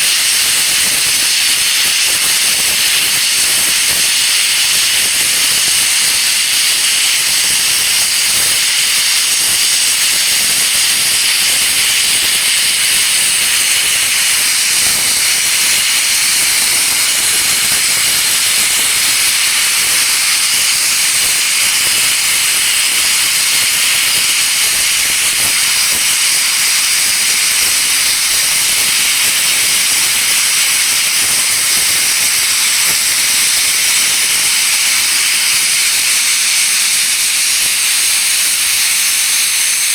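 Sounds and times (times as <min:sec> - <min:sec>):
steam locomotive venting steam: 0:00.0 - 0:39.9.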